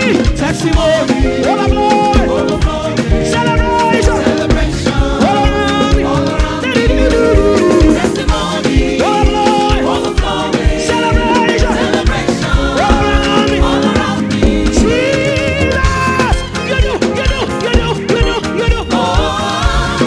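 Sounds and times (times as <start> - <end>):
gospel singing over a band: 0.0 - 20.0.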